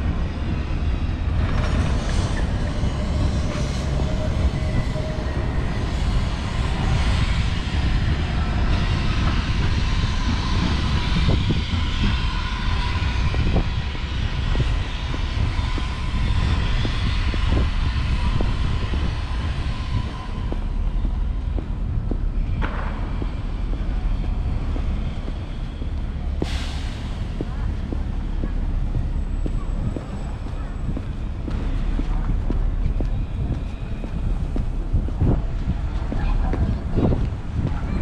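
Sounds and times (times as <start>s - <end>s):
city street traffic rumble: 0.0s - 38.0s
tram: 0.0s - 38.0s.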